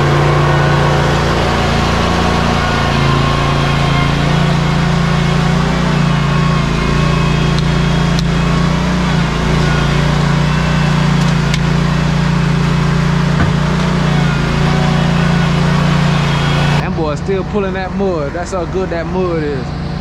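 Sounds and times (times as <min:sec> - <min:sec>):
mixer drum turning: 0:00.0 - 0:16.9
diesel truck engine running: 0:00.0 - 0:20.0.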